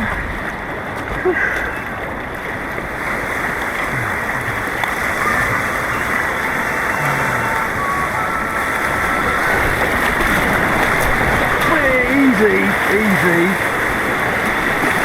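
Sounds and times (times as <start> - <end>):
churning white water rushing: 0.0 - 15.0.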